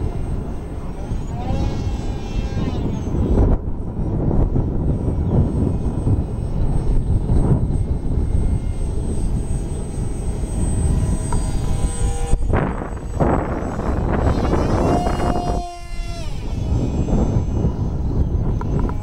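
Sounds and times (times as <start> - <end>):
model jet motor whining: 0.0 - 19.0
wind buffeting microphone: 0.0 - 19.0.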